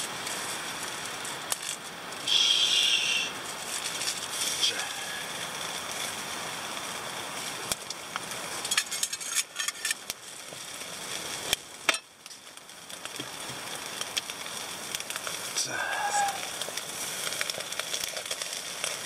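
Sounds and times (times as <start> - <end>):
chicken sizzling on a grill: 0.0 - 19.0
crackles and pops: 0.0 - 19.0.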